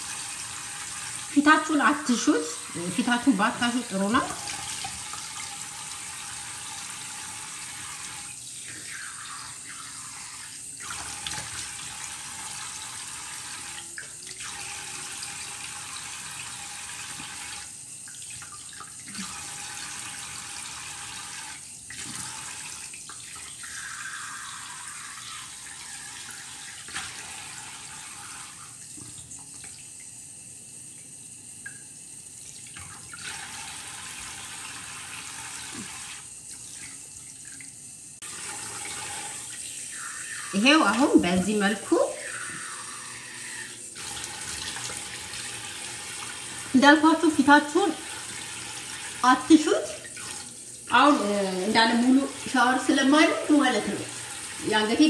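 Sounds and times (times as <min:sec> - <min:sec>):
tap water running into a sink: 0:00.0 - 0:55.0.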